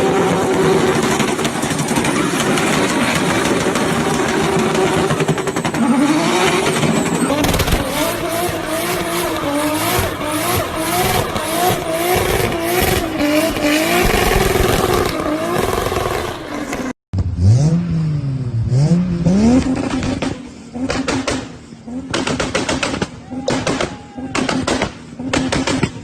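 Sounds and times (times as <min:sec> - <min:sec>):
car engine at high revs: 0:00.0 - 0:23.8, 0:24.4 - 0:26.0
car engine revving: 0:00.0 - 0:23.8.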